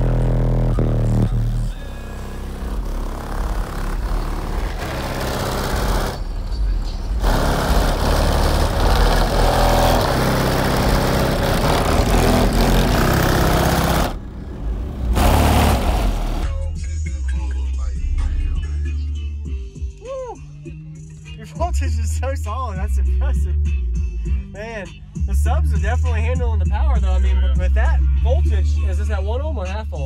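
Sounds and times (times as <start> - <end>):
bass-heavy music through subwoofers: 0.0 - 30.0.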